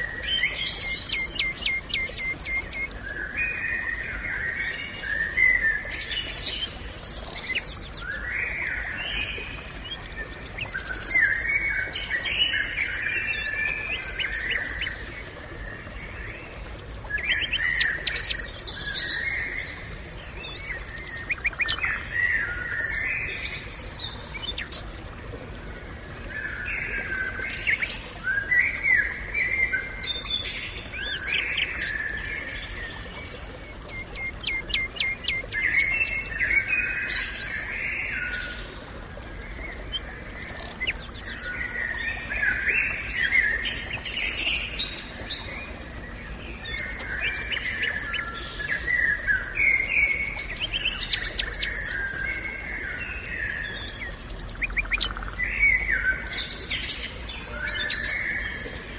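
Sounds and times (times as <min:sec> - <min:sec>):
songbirds singing and calling: 0:00.0 - 0:58.9
steady low background noise: 0:00.0 - 0:58.9.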